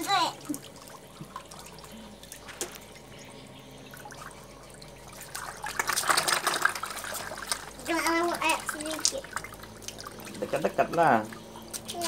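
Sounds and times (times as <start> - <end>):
fish splashing in water: 0.0 - 12.0.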